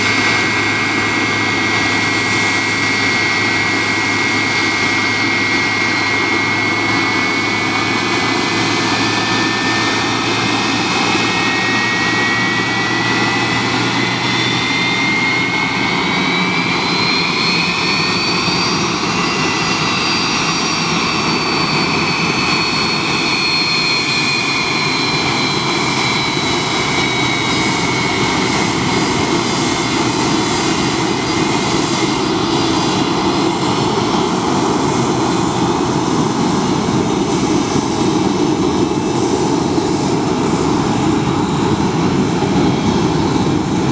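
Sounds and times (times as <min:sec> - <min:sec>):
jet engines roaring and whining: 0:00.0 - 0:43.9.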